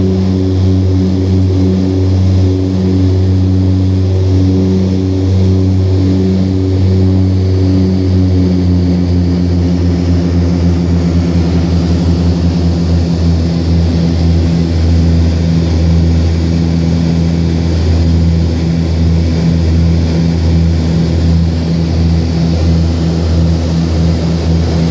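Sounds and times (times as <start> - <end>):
propeller drone: 0.0 - 24.9.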